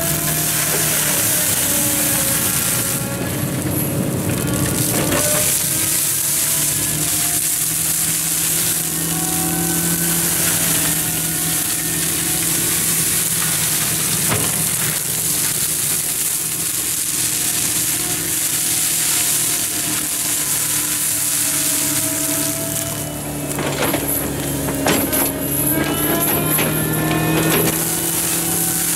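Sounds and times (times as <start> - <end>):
low machine drone: 0.0 - 28.9
mulcher shredding brush: 0.0 - 28.9.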